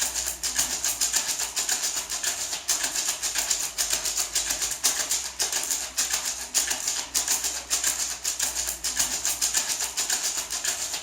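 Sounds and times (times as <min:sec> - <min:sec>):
maraca shaking: 0:00.0 - 0:11.0.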